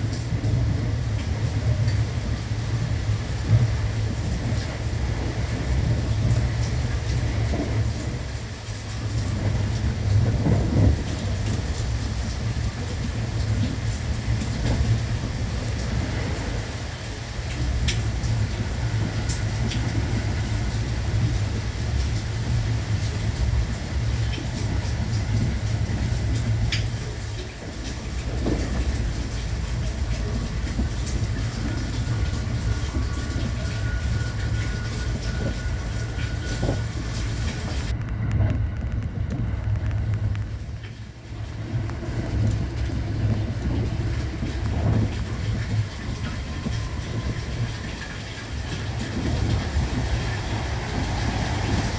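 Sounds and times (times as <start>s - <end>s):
faint rail clatter: 0.0s - 51.9s
train interior low rumble: 0.0s - 51.9s.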